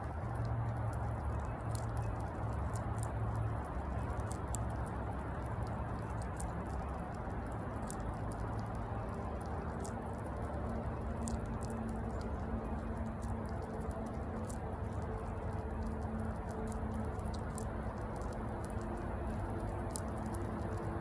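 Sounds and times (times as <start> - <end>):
squirrel gnawing food: 0.0 - 21.0.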